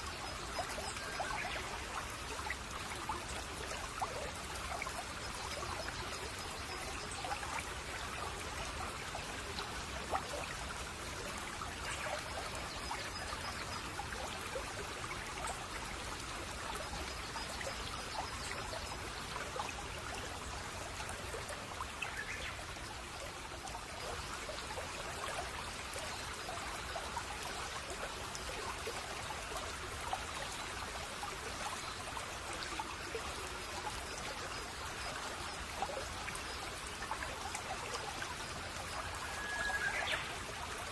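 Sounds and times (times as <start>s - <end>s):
brook water trickling: 0.0s - 40.9s.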